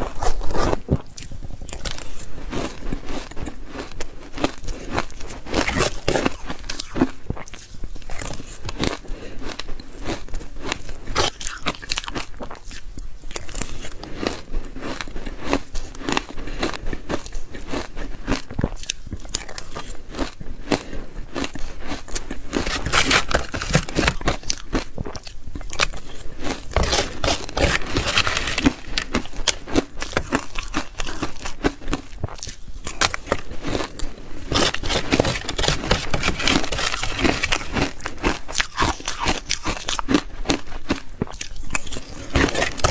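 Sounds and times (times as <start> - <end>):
shaved ice being chewed: 0.0 - 42.9.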